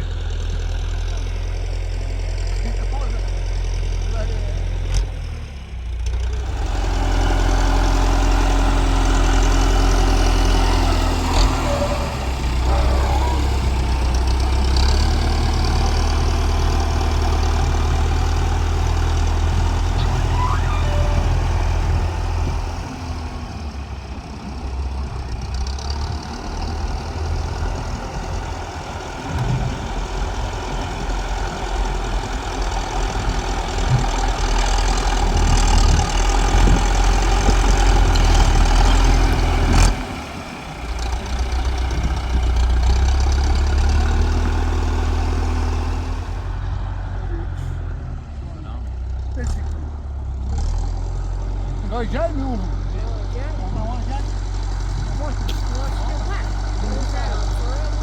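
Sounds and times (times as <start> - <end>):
tractor engine rumbling: 0.0 - 58.0.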